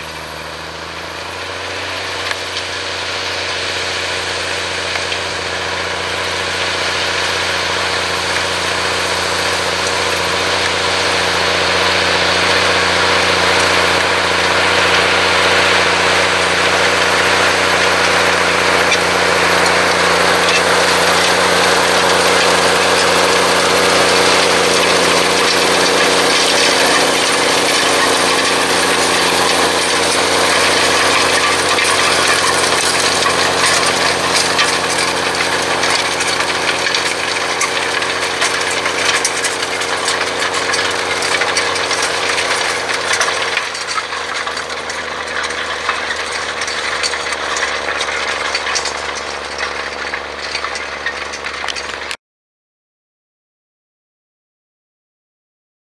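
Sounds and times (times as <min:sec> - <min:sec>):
cultivator clicking and clattering: 0:00.0 - 0:52.2
tractor engine under load: 0:00.0 - 0:52.2.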